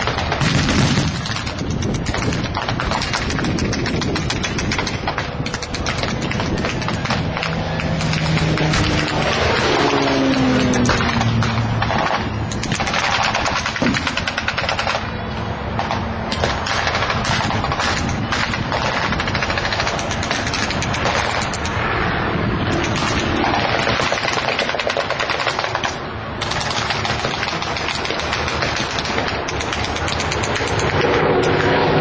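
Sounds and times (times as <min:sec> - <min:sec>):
simulated machine-gun fire crackle: 0:00.0 - 0:31.8.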